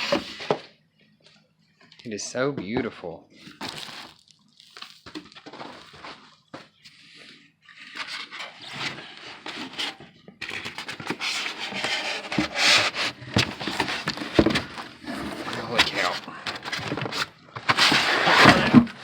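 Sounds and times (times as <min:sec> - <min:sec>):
packaging rustling and scraping: 0:00.0 - 0:00.7, 0:03.4 - 0:19.0.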